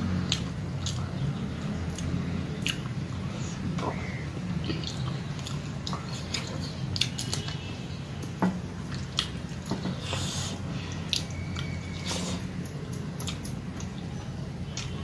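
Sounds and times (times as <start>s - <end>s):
chewing and mouth clicks: 0.2s - 7.6s, 8.2s - 9.7s, 10.9s - 15.0s.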